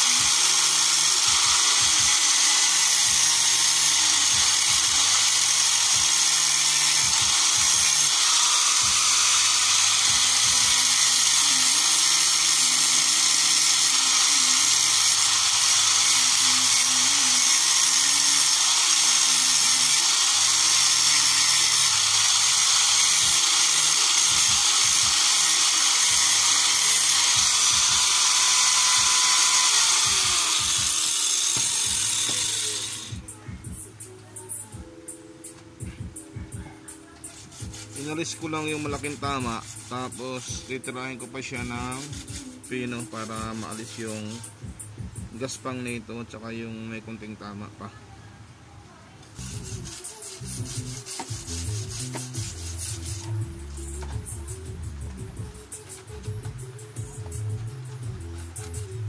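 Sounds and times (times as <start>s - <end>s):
angle grinder grinding metal: 0.0s - 33.4s, 34.4s - 47.7s, 49.3s - 59.0s.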